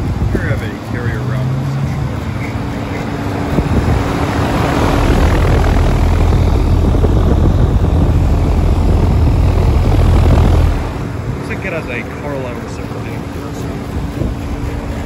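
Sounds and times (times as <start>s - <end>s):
air conditioner condenser running: 0.0s - 15.0s.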